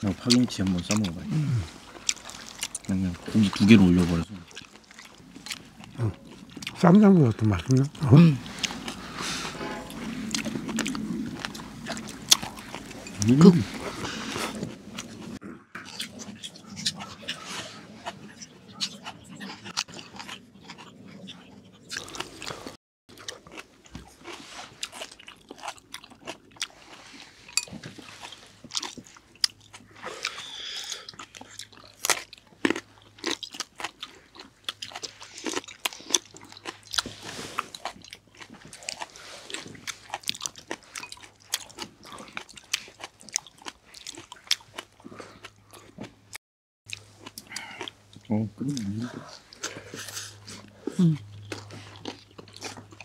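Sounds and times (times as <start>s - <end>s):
chewing and crunching food: 0.0s - 53.0s.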